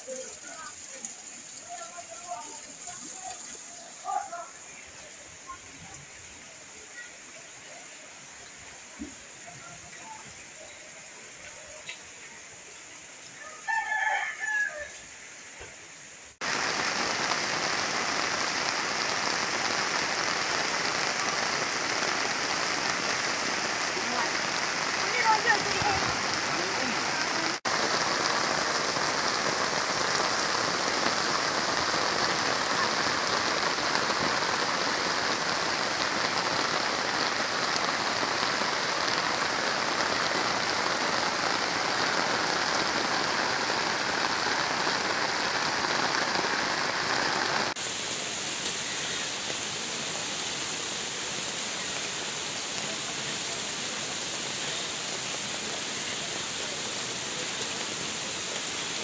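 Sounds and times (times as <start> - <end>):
floodwater flowing: 0.0 - 59.0
heavy rain hissing: 0.0 - 59.0.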